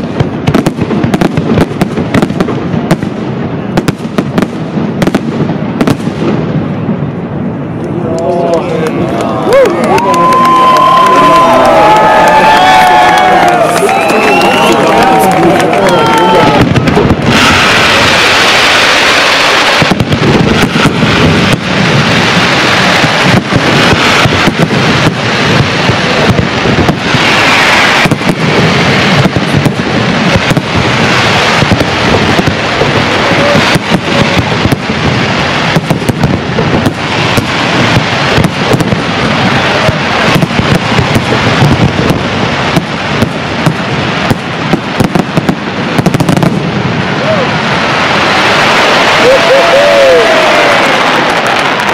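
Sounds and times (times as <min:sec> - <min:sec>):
fireworks bangs and crackling: 0:00.0 - 0:51.9
hissing rush of rising fireworks: 0:00.0 - 0:51.9.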